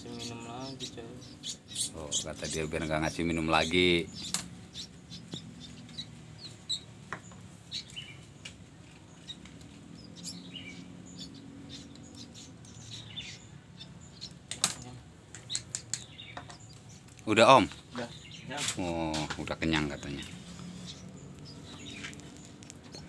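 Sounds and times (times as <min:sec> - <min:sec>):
chicks chirping: 0:00.0 - 0:23.0.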